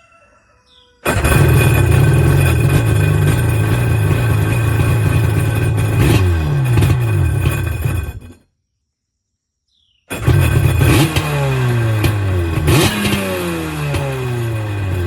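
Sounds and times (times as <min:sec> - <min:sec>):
jet ski engine running: 0:01.1 - 0:08.3, 0:10.1 - 0:15.0.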